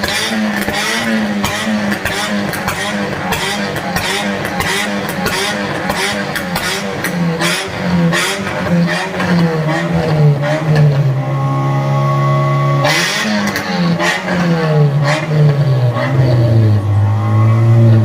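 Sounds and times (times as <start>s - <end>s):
engine revving: 0.0s - 18.0s.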